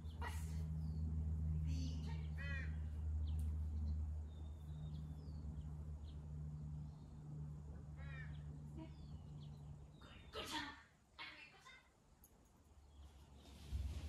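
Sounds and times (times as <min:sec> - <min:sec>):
steady low hum: 0:00.0 - 0:11.3
birds chirping: 0:00.0 - 0:11.9.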